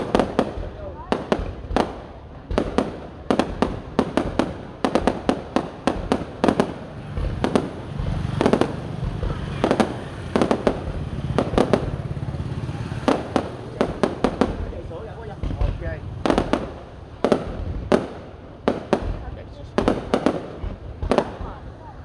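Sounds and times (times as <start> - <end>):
fireworks banging: 0.0 - 22.0
low rumble: 3.8 - 22.0.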